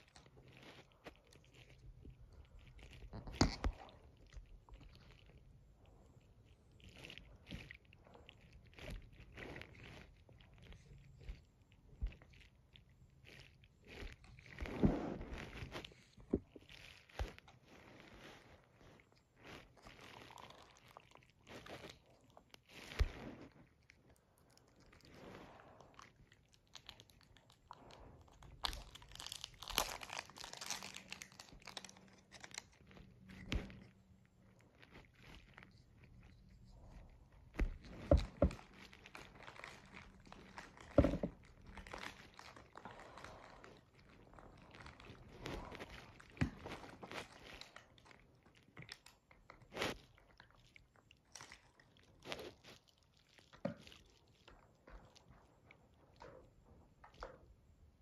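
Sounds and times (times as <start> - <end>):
dog chewing on a toy: 0.0 - 55.6
crinkling and crunching crackles: 0.0 - 58.0.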